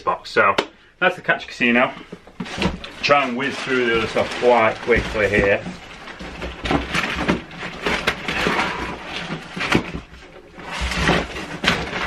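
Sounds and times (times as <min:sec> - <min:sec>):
packaging rustling: 0:01.8 - 0:12.0.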